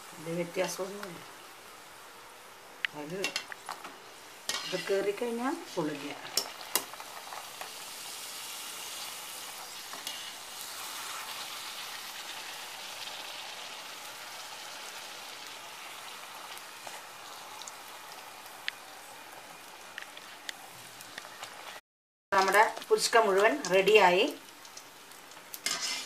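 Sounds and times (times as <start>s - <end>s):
hot oil sizzling: 0.0s - 26.0s.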